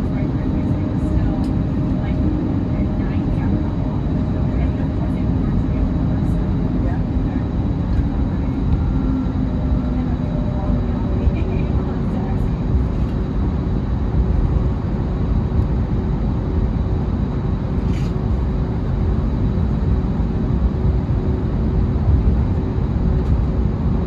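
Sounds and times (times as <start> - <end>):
airliner cabin rumble: 0.0 - 24.0
steady hum: 0.0 - 24.0.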